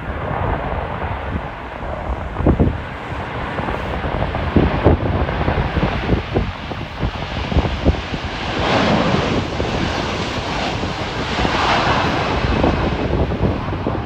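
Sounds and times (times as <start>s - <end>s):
jet engines roaring: 0.0s - 14.0s
wind buffeting microphone: 0.0s - 14.0s.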